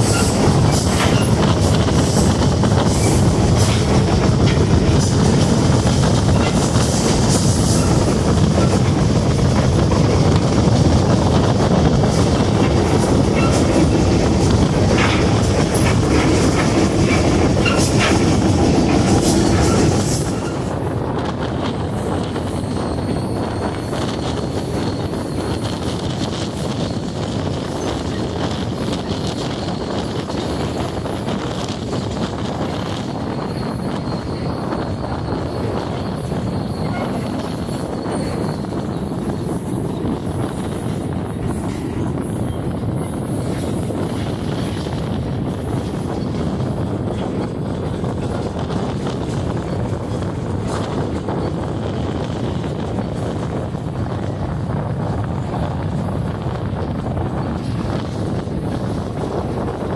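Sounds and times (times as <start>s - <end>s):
train rumbling: 0.0s - 59.9s
wind buffeting microphone: 0.0s - 59.9s.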